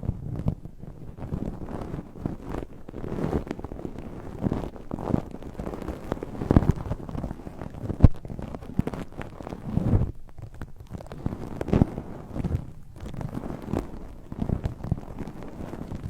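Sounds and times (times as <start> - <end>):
dried plants scratching microphone: 0.0 - 16.0.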